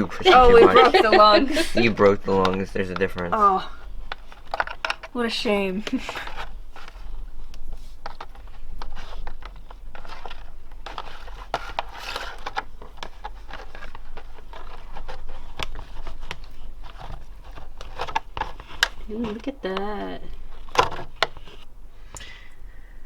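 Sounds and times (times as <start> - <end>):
hands scraping and rustling: 0.0 - 22.4.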